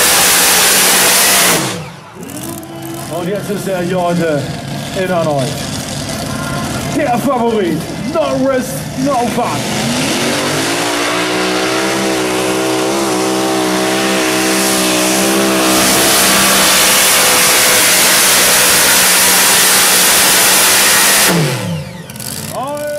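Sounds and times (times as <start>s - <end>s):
racing engine at high revs: 0.0s - 22.9s.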